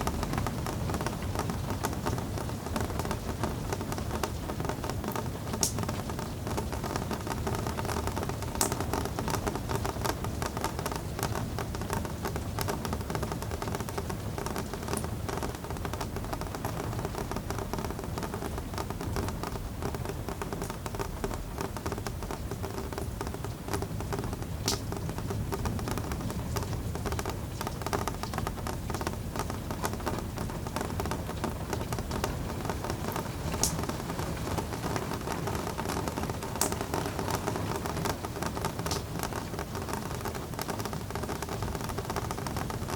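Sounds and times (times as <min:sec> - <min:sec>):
steady rain pattering: 0:00.0 - 0:42.9.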